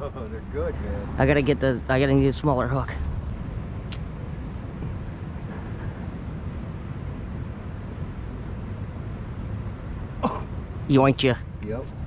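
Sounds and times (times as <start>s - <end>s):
cricket chirping: 0.0s - 12.0s
low steady rumble: 0.0s - 12.0s.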